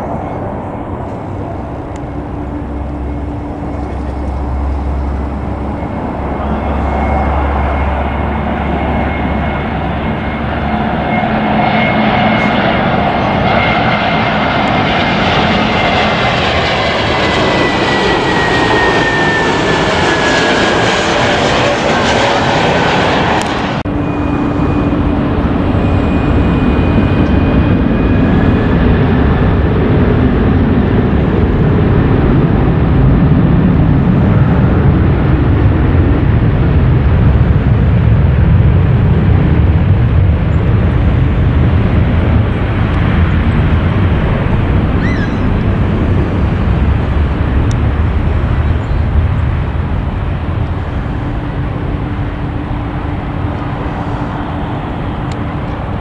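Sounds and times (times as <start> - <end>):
airliner jet rumble: 0.0 - 56.0.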